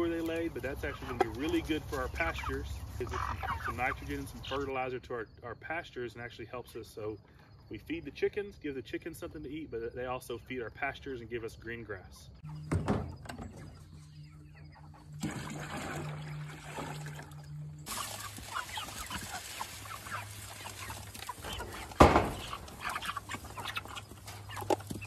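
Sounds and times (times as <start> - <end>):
chickens clucking: 0.0 - 7.2, 10.3 - 25.0.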